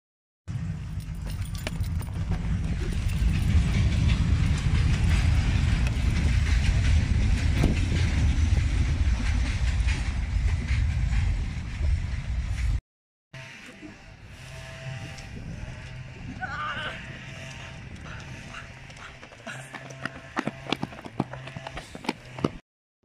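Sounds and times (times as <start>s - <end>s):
vehicle rumbling in motion: 0.5s - 12.8s, 13.4s - 22.6s.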